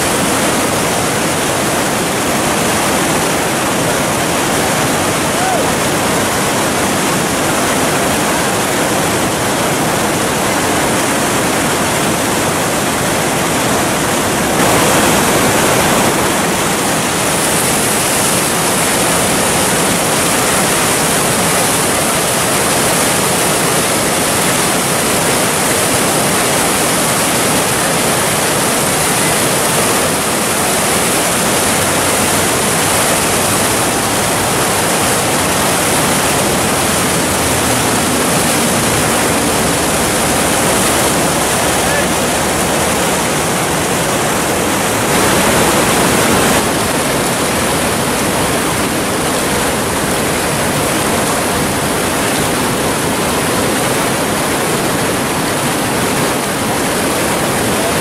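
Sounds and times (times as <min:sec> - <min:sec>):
whitewater rapids roaring: 0:00.0 - 0:58.0.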